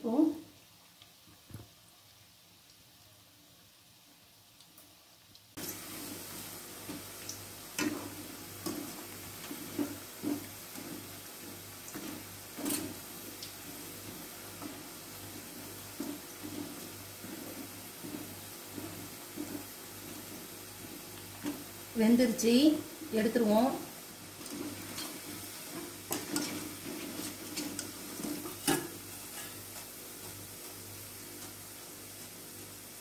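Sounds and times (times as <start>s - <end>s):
batter frying in hot oil: 0.0s - 33.0s.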